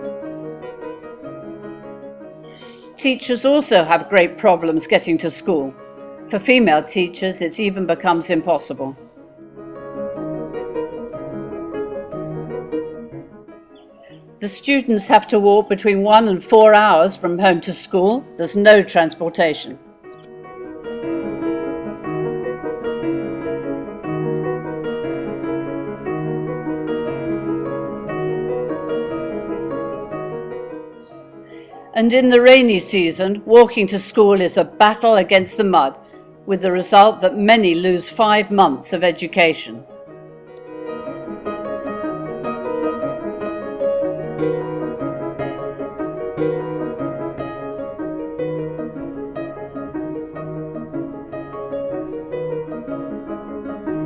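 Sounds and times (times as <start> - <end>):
slow piano chords: 0.0 - 54.0.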